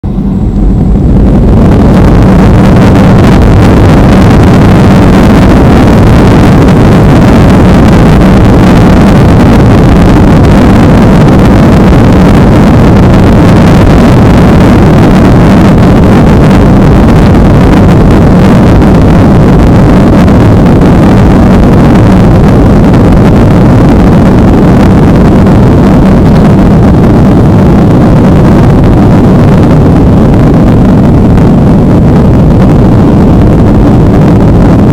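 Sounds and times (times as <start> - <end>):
airliner cabin engine roar: 0.0 - 34.9
constant low hum: 0.0 - 34.9.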